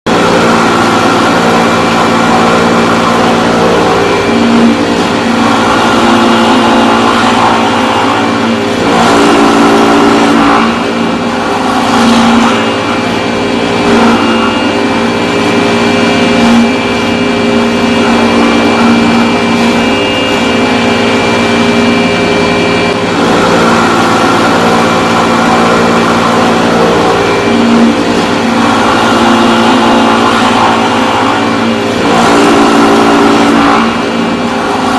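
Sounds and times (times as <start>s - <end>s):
power carving tool cutting wood: 0.1s - 34.9s.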